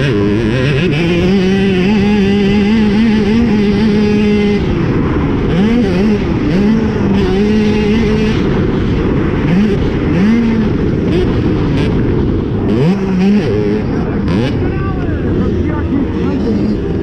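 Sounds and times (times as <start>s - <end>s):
dirt bike engine revving: 0.0s - 17.0s
wind noise on microphone: 0.0s - 17.0s.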